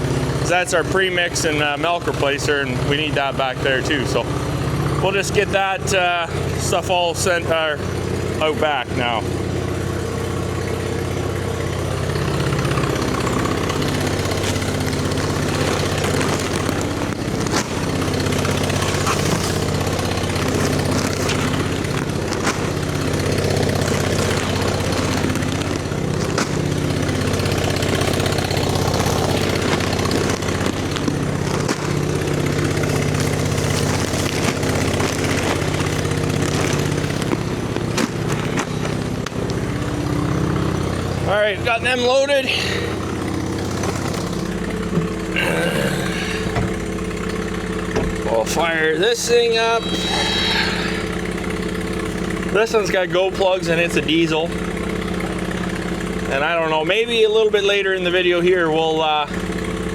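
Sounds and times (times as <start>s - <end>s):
short engine knocks: 0.0s - 56.5s
engine running steadily: 0.0s - 59.9s.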